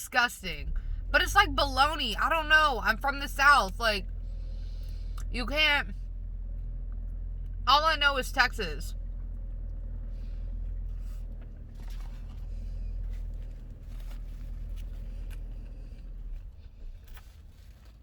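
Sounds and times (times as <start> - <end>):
car idling inside cabin: 0.0 - 18.0.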